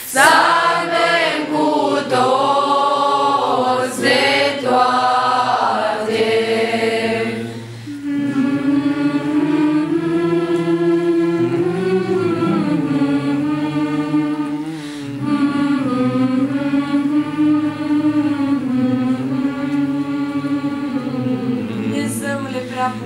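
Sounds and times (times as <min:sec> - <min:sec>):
youth choir singing held notes: 0:00.0 - 0:23.0.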